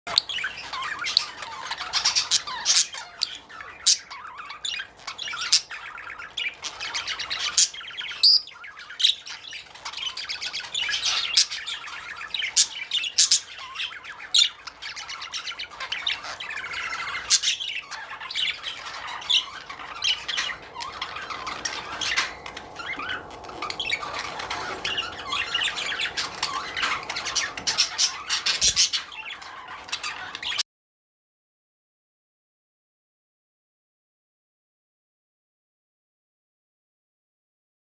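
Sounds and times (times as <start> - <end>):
bird squawks and chirps: 0.1 - 30.6
budgerigars chattering: 0.1 - 30.6.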